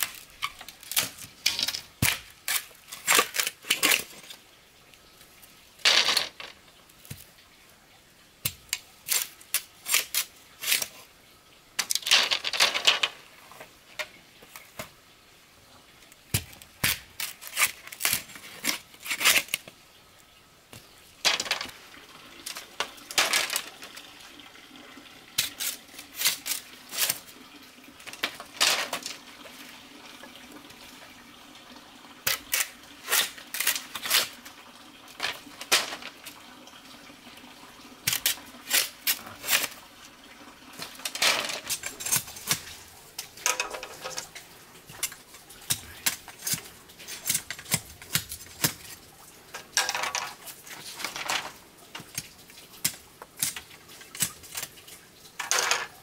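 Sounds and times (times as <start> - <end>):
water sounds: 0.0 - 56.0.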